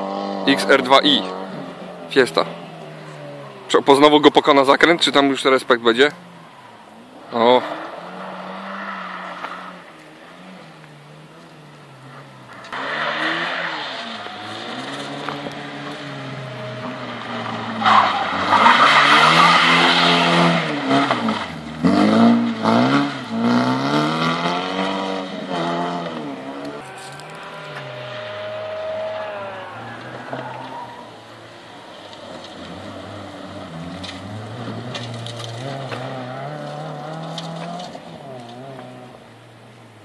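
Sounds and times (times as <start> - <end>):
car skidding on loose dirt: 0.0 - 39.6
car engine revving: 0.0 - 40.0.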